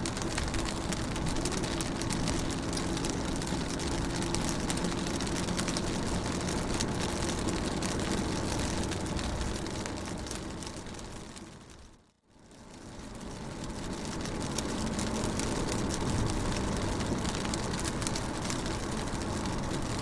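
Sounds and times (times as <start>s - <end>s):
rain on car windows: 0.0s - 20.0s.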